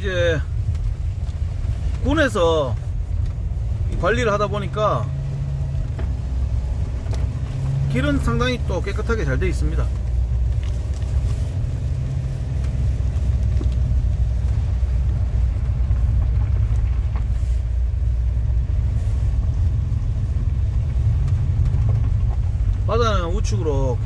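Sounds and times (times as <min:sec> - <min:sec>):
car interior road rumble: 0:00.0 - 0:24.0.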